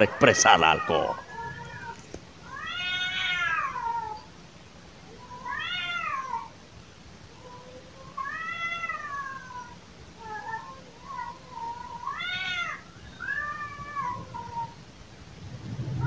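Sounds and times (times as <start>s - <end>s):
cats yowling: 0.0s - 4.3s, 5.0s - 6.6s, 7.3s - 14.9s.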